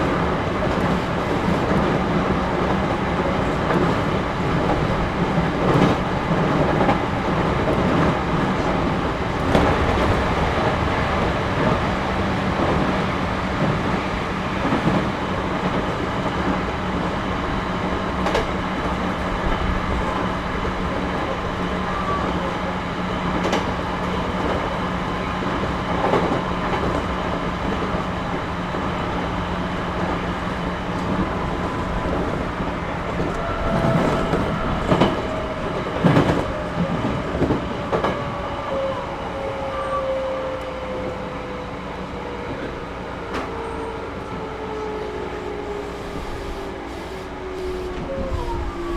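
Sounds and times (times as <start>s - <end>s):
train wheels and motors rumbling: 0.0s - 48.9s.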